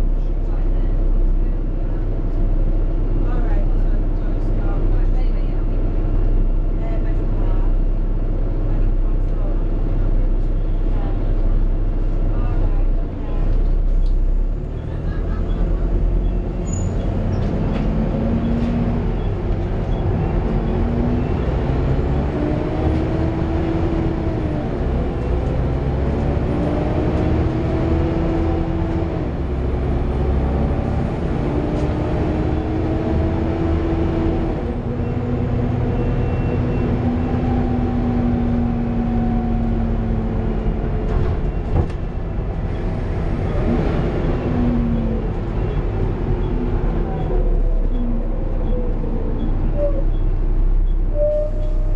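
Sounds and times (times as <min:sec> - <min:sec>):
bus engine rumble and whine: 0:00.0 - 0:51.9.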